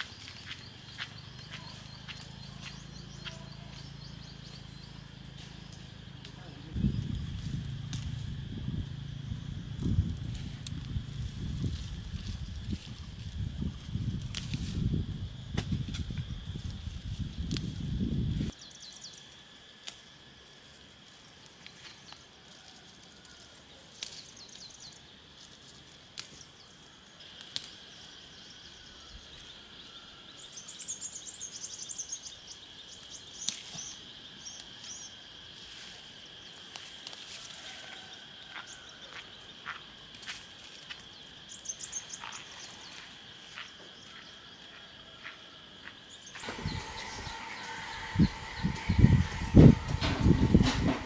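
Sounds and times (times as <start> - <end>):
high insect drone: 0.0 - 22.4, 24.1 - 51.0.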